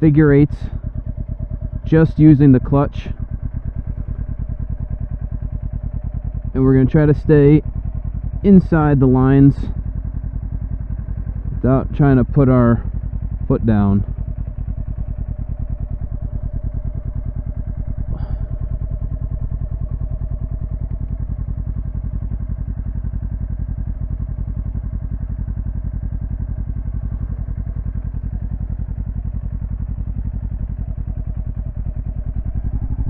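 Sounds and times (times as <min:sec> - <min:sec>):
motorcycle engine at low revs: 0:00.0 - 0:33.0.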